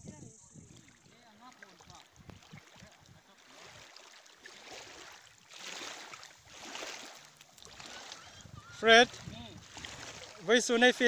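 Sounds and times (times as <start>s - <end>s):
small waves washing: 0.6s - 11.0s.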